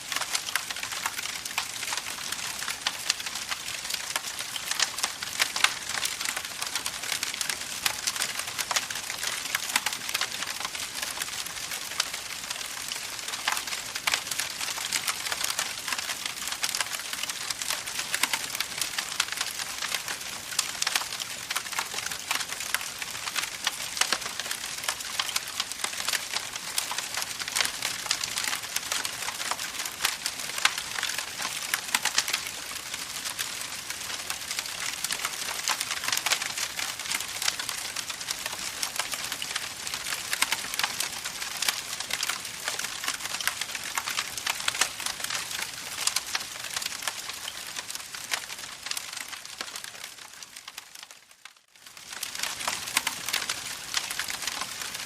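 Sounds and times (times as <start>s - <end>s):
campfire crackling: 0.0s - 51.1s, 51.9s - 55.0s.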